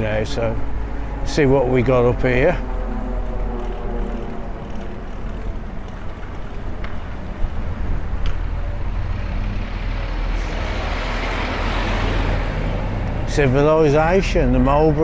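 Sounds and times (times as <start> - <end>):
wind rumble on microphone: 0.0 - 13.6
motor vehicle engines: 0.0 - 15.0
rushing engine sound: 0.0 - 15.0.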